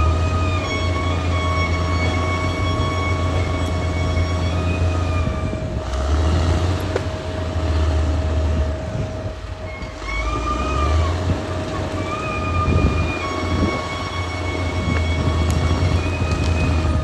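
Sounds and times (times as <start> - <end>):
high-pitched machine whine: 0.0 - 6.1, 7.2 - 17.0
bulldozer diesel engine rumble: 0.0 - 17.0.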